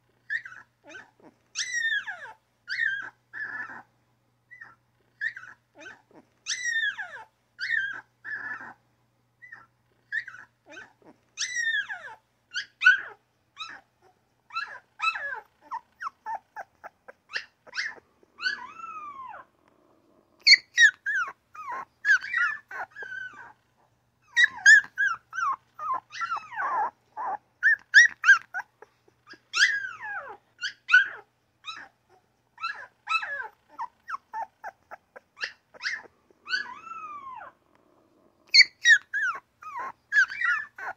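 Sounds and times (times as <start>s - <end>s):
newborn puppies whimpering and yipping: 0.2s - 3.9s, 4.5s - 8.8s, 9.4s - 19.5s, 20.4s - 37.6s, 38.4s - 40.9s.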